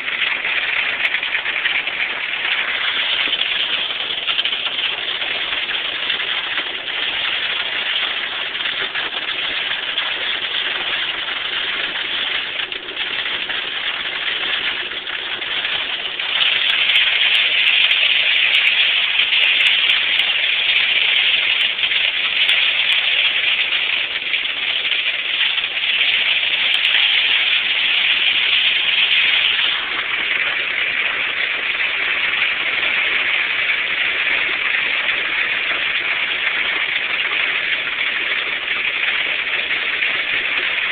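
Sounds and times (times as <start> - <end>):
hail and rain pelting down: 0.0 - 40.9.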